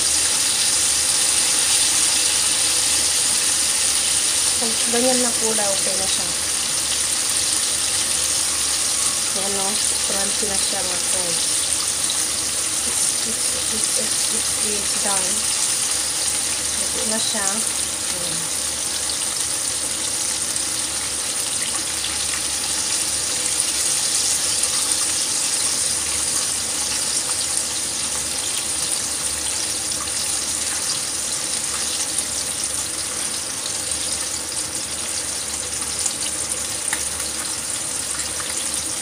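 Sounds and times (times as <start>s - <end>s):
chicken deep-frying in oil: 0.0s - 39.0s.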